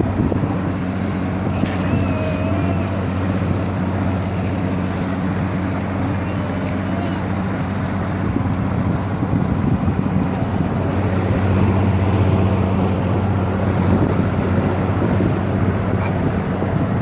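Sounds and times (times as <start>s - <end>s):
motorboat engine running: 0.0s - 17.0s
wind buffeting microphone: 0.0s - 17.0s.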